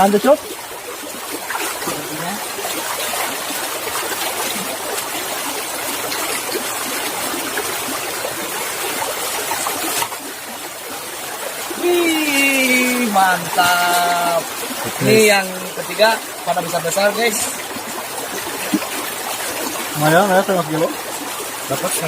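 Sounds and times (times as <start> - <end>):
flowing water: 0.0 - 22.0.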